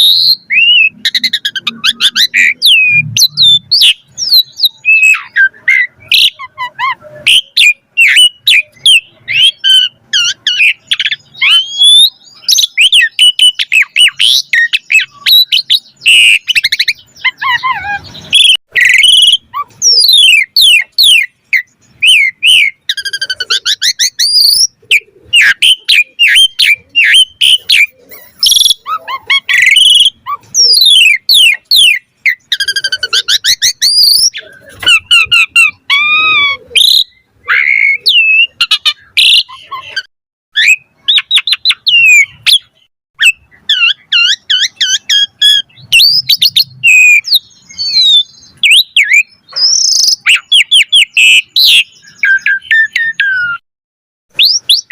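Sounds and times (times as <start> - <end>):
starling singing: 0.0 - 53.6, 54.3 - 54.9.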